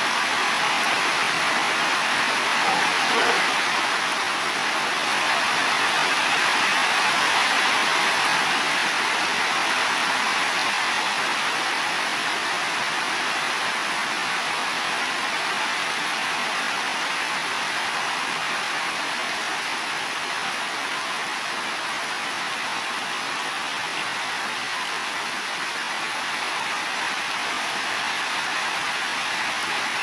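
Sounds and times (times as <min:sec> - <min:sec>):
heavy rain on roofs: 0:00.0 - 0:30.0.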